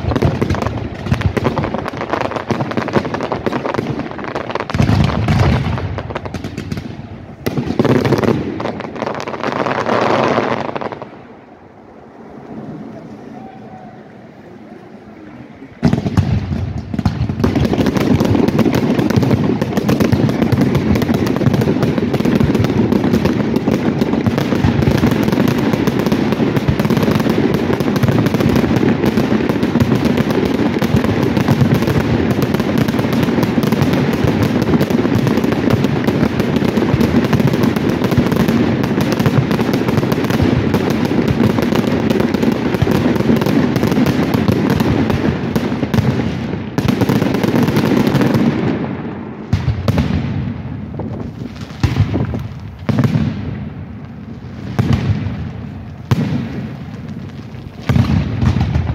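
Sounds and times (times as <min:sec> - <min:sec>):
fireworks bangs and crackling: 0:00.0 - 0:58.9.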